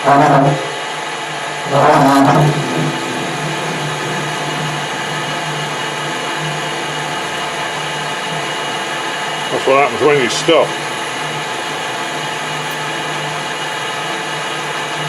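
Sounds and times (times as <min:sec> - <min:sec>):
lathe cutting noise: 0:00.0 - 0:15.0
metal lathe running: 0:00.0 - 0:15.0.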